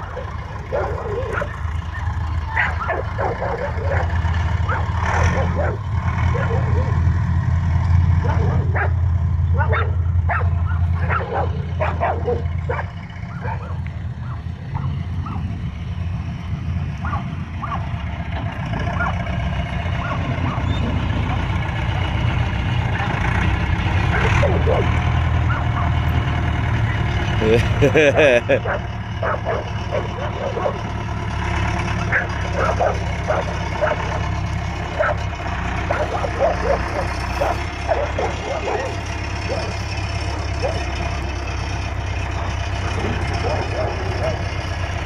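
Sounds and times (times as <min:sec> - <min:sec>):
diesel engine low rumble: 0:00.0 - 0:45.0.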